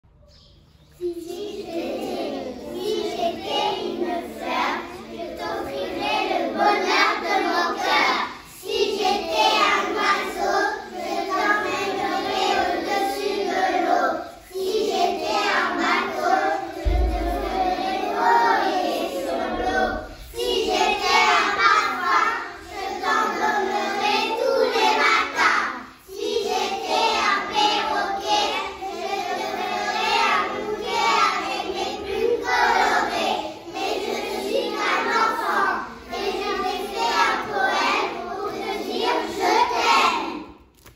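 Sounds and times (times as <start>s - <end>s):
children reciting in unison: 0.2s - 40.7s.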